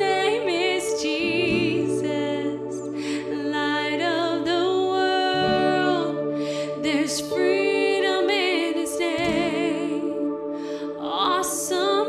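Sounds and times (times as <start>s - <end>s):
ambient synth pad: 0.0s - 12.0s
guitars: 0.0s - 12.0s
woman singing with vibrato: 0.0s - 12.0s.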